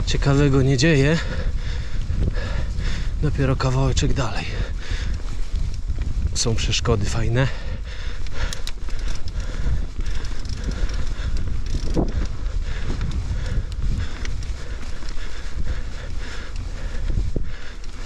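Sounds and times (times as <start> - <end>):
bike clicks and rattles: 0.0 - 18.0
bike tyres on dirt: 0.0 - 18.0
wind rumble on microphone: 0.0 - 18.0.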